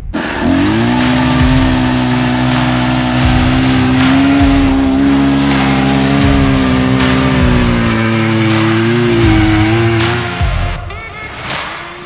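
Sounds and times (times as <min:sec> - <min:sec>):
ice auger motor drilling: 0:00.0 - 0:10.4.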